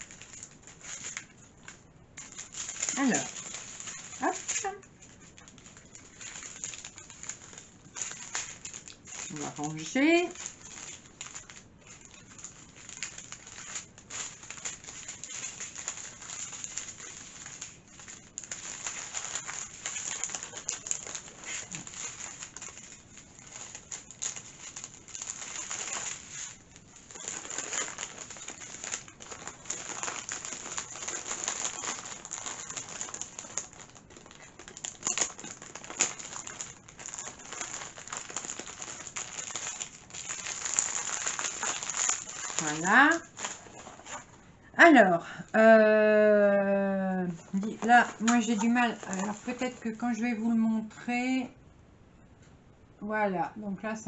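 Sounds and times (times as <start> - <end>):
plastic packaging rustling: 0.0 - 44.7, 45.3 - 51.2.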